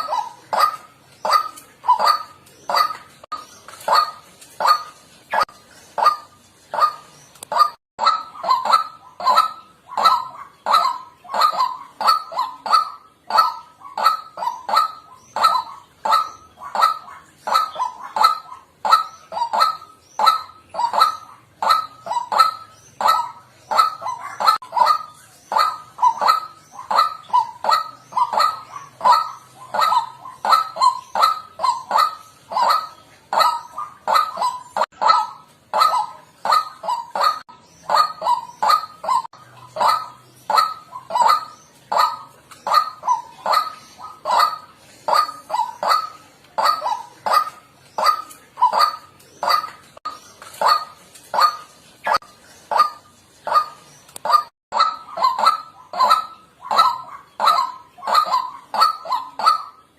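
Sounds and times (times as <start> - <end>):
bird harsh repeated calls: 0.0 - 59.9.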